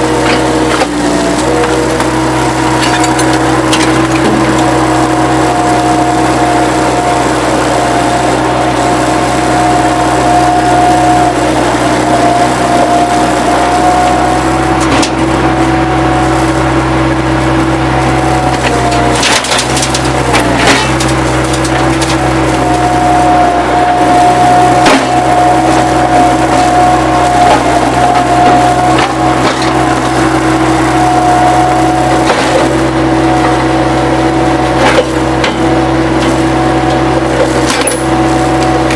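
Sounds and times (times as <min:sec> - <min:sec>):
diesel loader engine whining: 0:00.0 - 0:38.9.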